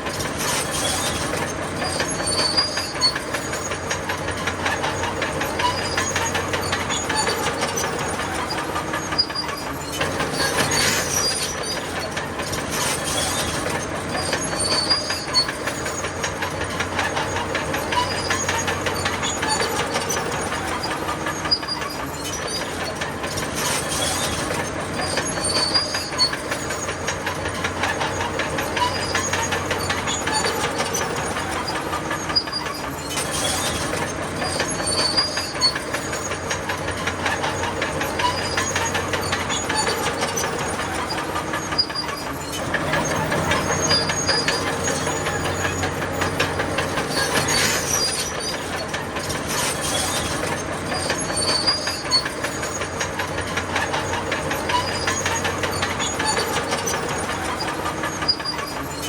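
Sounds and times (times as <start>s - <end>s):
diesel engine running: 0.0s - 59.0s
steel tracks clattering: 0.0s - 59.0s
track links squeaking: 0.0s - 59.0s.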